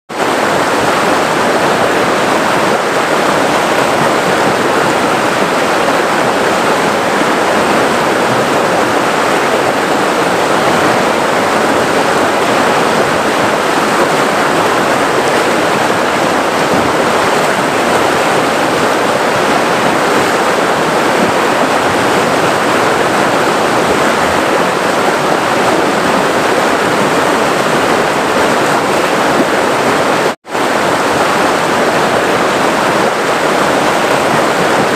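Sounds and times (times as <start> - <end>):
river water rushing over rocks: 0.1 - 34.9.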